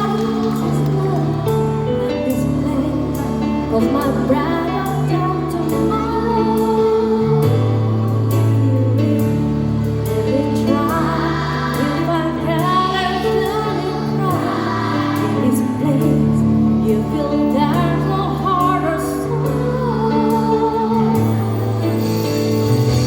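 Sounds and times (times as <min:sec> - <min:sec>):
children's choir singing: 0:00.0 - 0:22.2
instrumental accompaniment: 0:00.0 - 0:23.0.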